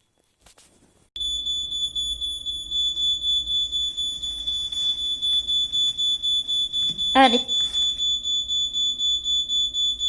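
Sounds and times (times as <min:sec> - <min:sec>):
smoke alarm shrill tone: 0:01.2 - 0:10.0.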